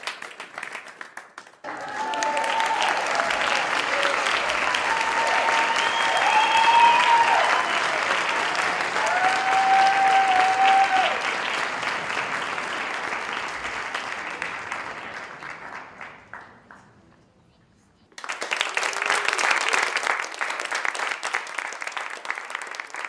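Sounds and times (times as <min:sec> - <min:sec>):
audience applauding: 0:00.0 - 0:16.9, 0:18.2 - 0:23.0
crowd cheering: 0:01.6 - 0:16.0, 0:18.2 - 0:23.0.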